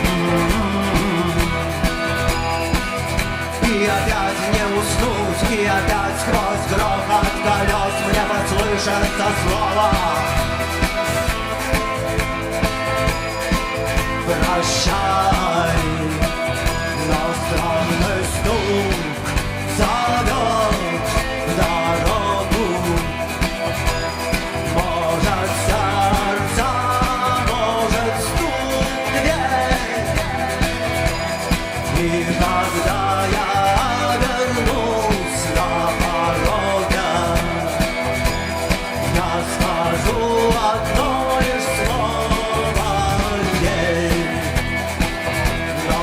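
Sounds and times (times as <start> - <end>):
drum kit steady beat: 0.0 - 46.0
electric guitar: 0.0 - 46.0.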